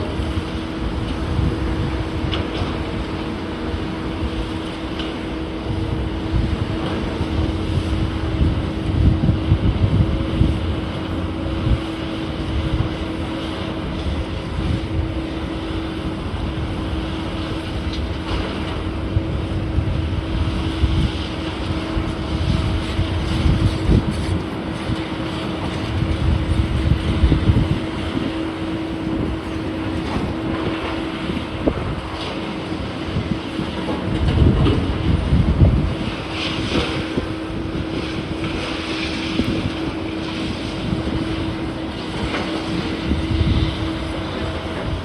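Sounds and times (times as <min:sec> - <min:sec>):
machine engine humming: 0:00.0 - 0:45.0
wind buffeting microphone: 0:00.0 - 0:45.0.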